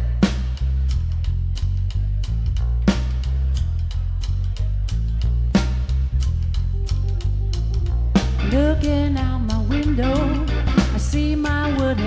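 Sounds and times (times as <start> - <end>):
drum kit beat: 0.0 - 12.0
heavy bass line: 0.0 - 12.0.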